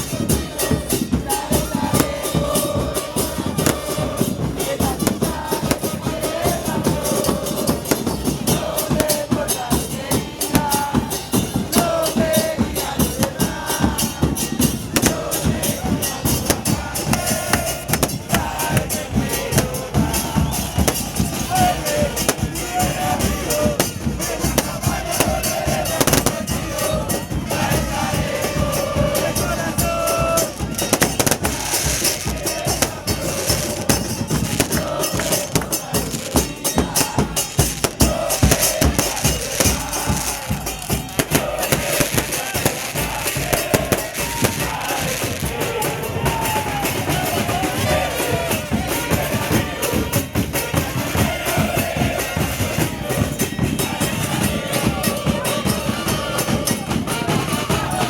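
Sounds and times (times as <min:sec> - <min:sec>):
crowd chanting: 0:00.0 - 0:58.0
drums beating fast rhythm: 0:00.0 - 0:58.0.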